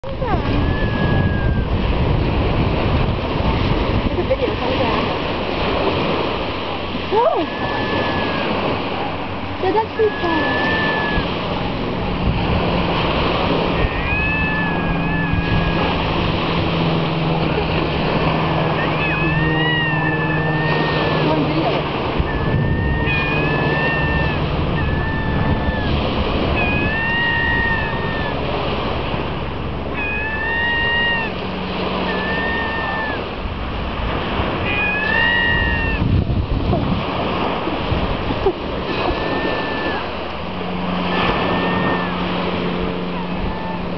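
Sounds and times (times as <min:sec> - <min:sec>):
gulls mewing: 0:00.0 - 0:43.9
high wavering whine: 0:00.0 - 0:43.9
low motor hum: 0:00.0 - 0:43.9
waves on pebble beach: 0:00.0 - 0:43.9
wind buffeting microphone: 0:00.0 - 0:43.9.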